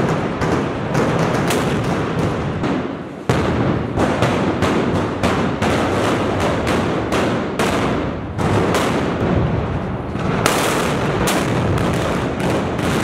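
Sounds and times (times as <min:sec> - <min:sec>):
black-powder guns firing volley: 0:00.0 - 0:13.0.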